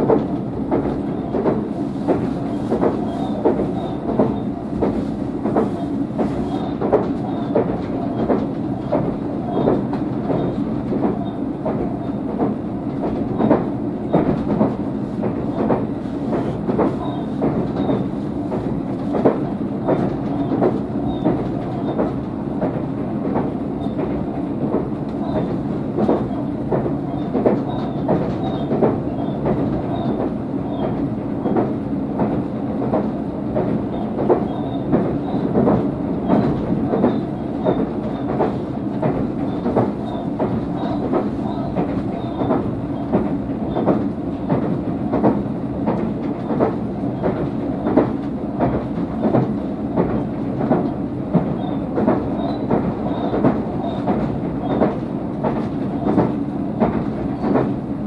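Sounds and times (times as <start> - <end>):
rumble of wheels on rail: 0.0 - 58.0.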